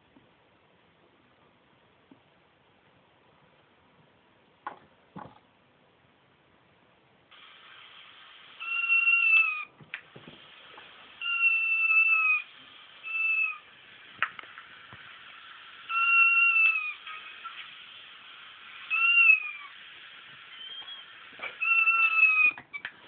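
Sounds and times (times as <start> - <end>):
faint speaker hiss: 0.0 - 23.0.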